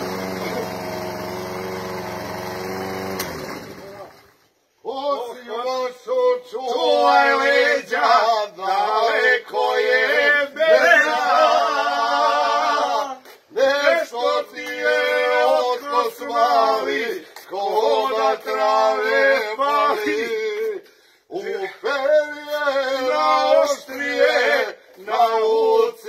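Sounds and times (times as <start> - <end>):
man singing: 4.9 - 26.0.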